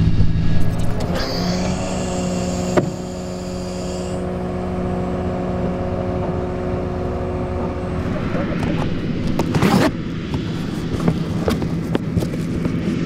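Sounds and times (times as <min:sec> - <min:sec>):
large engine droning: 0:00.0 - 0:13.0.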